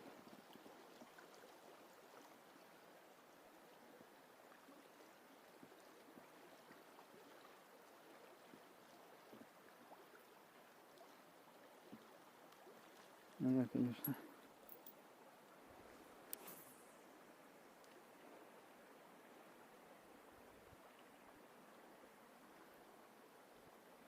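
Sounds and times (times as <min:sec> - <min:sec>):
shallow river flowing: 0:00.0 - 0:24.0.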